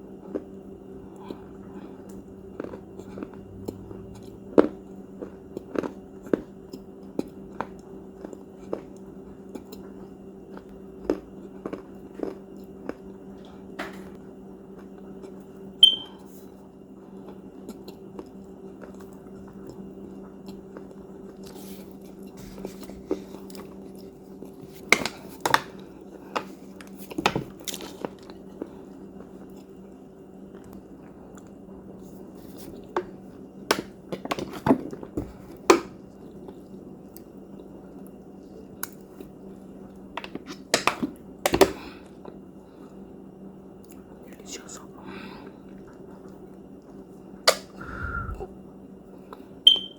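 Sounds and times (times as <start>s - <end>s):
crunchy cookies being chewed: 0.0s - 47.9s, 48.8s - 49.6s
steady low hum: 0.0s - 49.9s.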